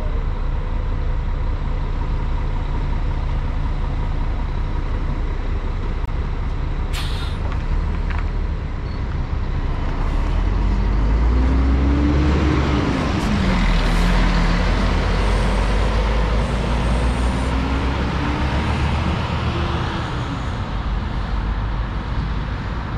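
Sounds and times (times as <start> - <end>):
coach diesel engine rumbling: 0.0 - 22.9.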